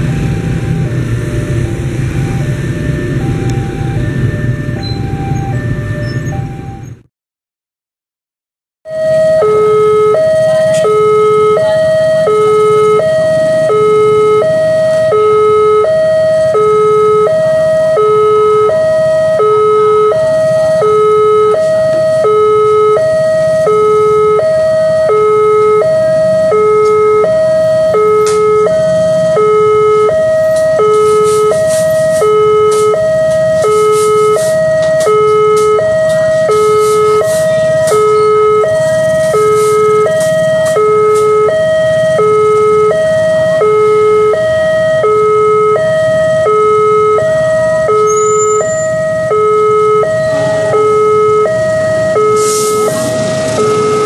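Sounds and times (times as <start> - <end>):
two-tone crossing alarm chime: 0.0 - 7.0, 8.9 - 54.0.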